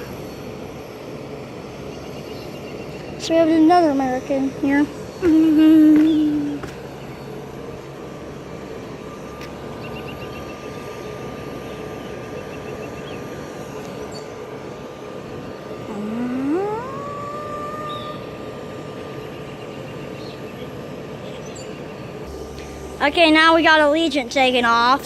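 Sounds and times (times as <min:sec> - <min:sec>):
jet engine spooling up: 0:00.0 - 0:25.0
jet engines whining: 0:00.0 - 0:25.0.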